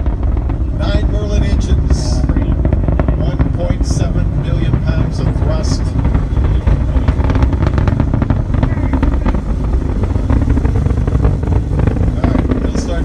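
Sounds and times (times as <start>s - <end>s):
distant rocket engines rumbling: 0.0s - 13.0s.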